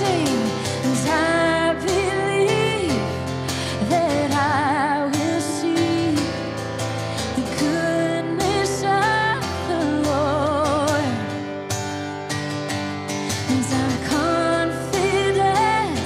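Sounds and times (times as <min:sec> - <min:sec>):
woman singing: 0:00.0 - 0:11.6, 0:13.2 - 0:16.0
acoustic guitar strumming: 0:00.0 - 0:16.0.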